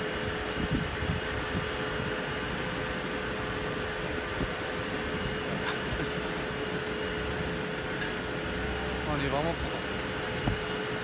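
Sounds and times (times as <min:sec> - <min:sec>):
crane machinery hum: 0:00.0 - 0:11.0.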